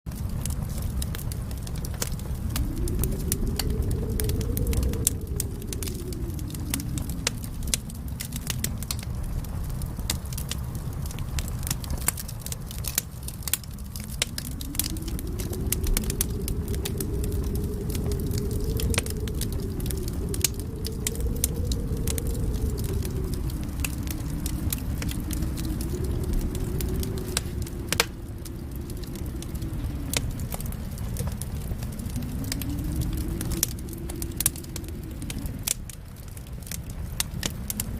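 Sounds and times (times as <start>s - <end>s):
wind howling: 0.1s - 37.9s
wood fire crackling: 0.1s - 37.9s.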